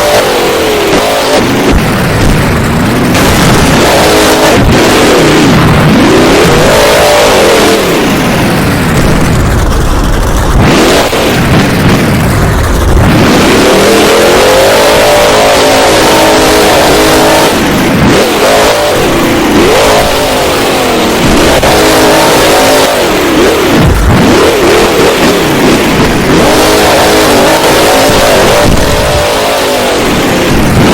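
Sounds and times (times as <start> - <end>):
truck engine revving hard: 0.0 - 30.9.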